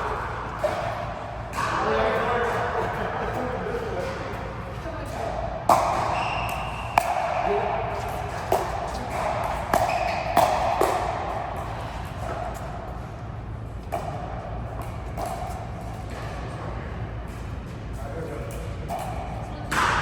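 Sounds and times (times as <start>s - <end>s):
racket hitting ball in hall: 0.0s - 20.0s.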